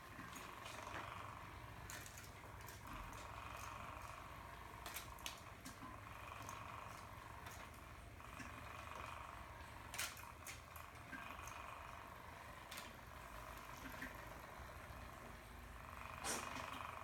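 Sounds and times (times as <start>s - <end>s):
small motor whine: 0.0s - 17.0s.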